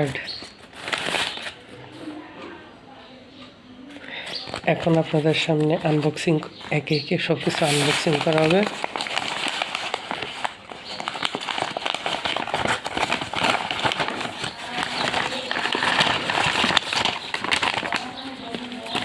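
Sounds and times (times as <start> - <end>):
packaging rustling and crackling: 0.0 - 1.7, 4.2 - 19.0.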